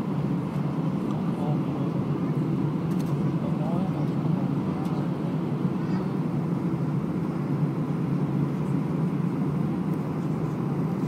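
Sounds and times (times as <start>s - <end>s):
aircraft rolling on ground: 0.0s - 11.0s
jet engines at low power: 0.0s - 11.0s.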